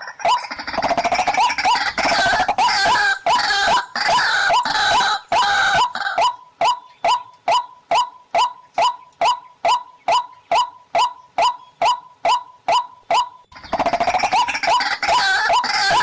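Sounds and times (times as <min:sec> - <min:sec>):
harsh dense bird calling: 0:00.0 - 0:16.0.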